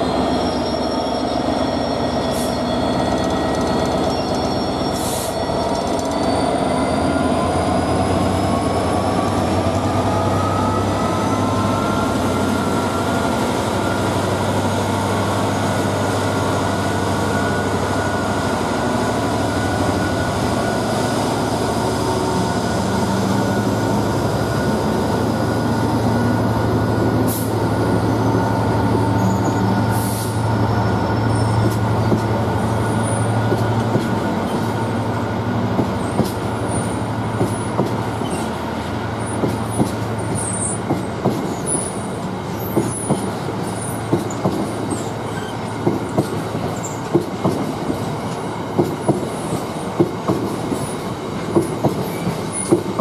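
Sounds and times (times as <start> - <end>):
diesel locomotive engine: 0.0 - 53.0.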